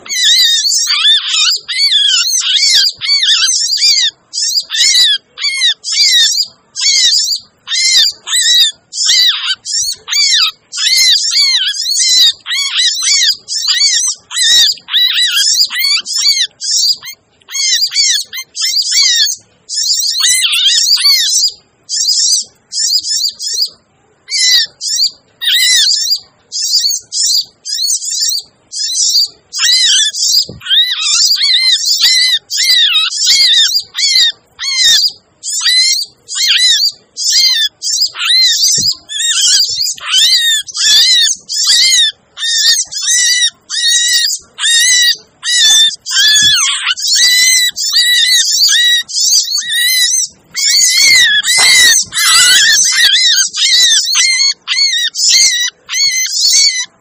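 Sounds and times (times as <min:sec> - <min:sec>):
high-pitched bird chirping: 0:00.0 - 0:57.0.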